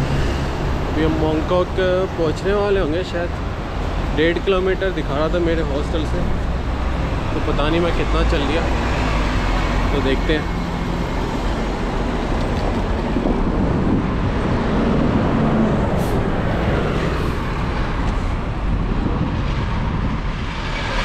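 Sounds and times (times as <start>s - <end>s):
engine hum: 0.0s - 21.0s
traffic passing on road: 0.0s - 21.0s.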